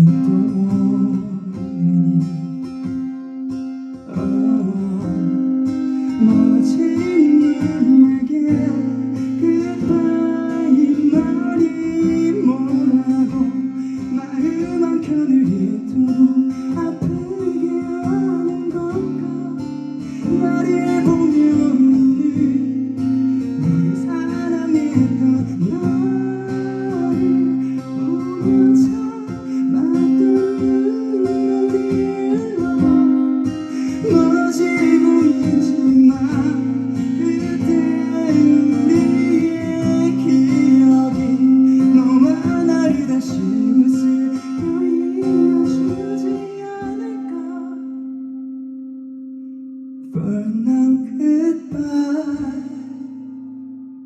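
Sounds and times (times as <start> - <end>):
guitar: 0.0 - 54.0.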